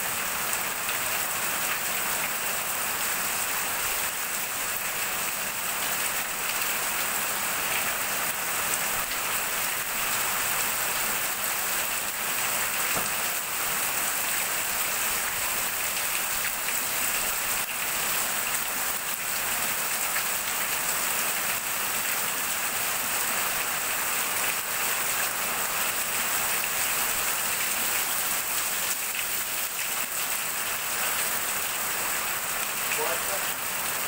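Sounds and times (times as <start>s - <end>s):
heavy rain on corrugated roof: 0.0s - 34.0s
water streaming off roof: 0.0s - 34.0s.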